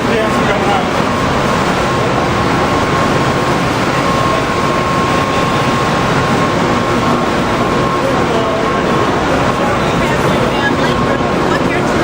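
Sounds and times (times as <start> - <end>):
machinery rush with high whine: 0.0 - 12.0.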